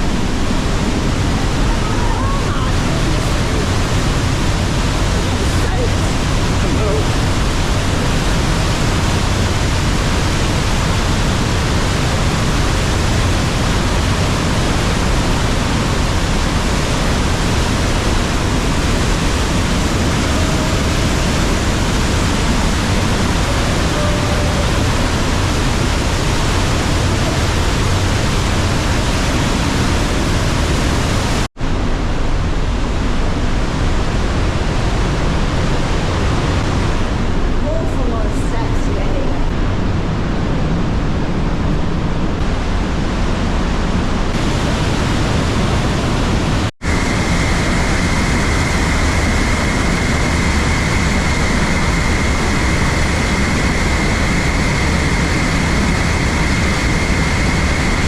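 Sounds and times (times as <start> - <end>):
waterfall rushing: 0.0 - 32.2, 39.5 - 58.0.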